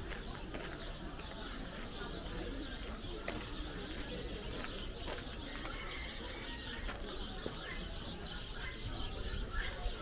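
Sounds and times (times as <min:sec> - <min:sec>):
birds calling: 0:00.0 - 0:10.0
outdoor background din: 0:00.0 - 0:10.0.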